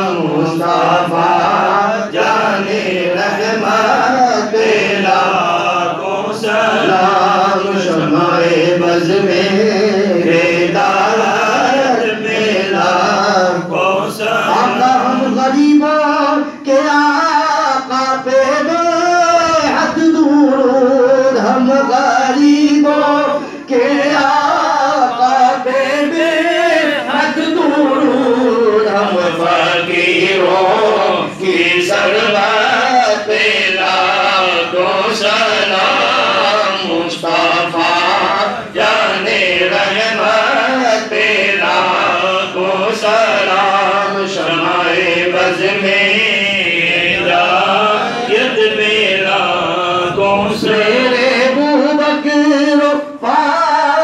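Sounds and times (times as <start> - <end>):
man chanting into a microphone: 0.0 - 54.0.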